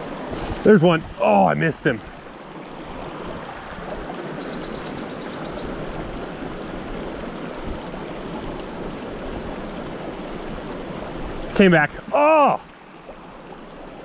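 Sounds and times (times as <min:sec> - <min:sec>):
creek flowing over stones: 0:00.0 - 0:14.0.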